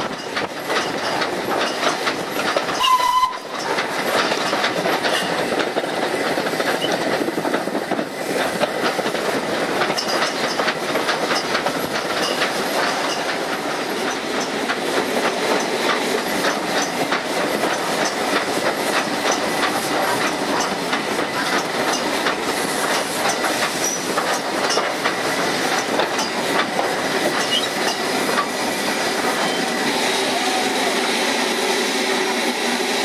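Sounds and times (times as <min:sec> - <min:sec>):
train wheels clicking over rail joints: 0:00.0 - 0:31.1
train running rumble: 0:00.0 - 0:33.0.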